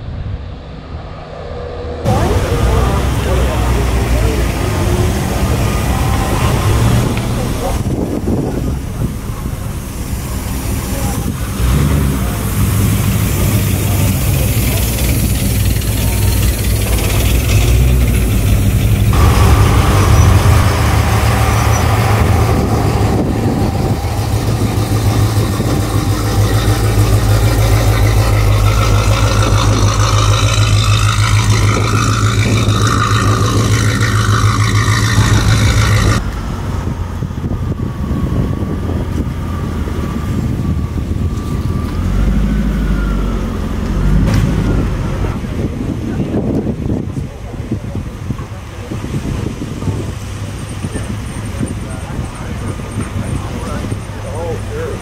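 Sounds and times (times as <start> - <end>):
car engine idling: 0.0 - 42.3, 42.9 - 55.0.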